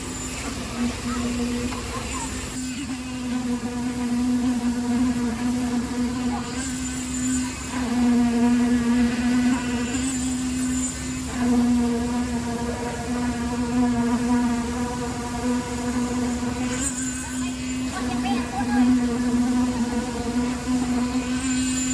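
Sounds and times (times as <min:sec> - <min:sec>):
small engine buzzing drone: 0:00.0 - 0:21.9.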